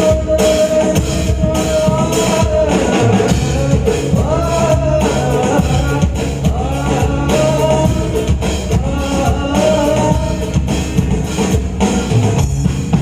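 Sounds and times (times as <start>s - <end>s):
song with vocals and band: 0.0s - 13.0s.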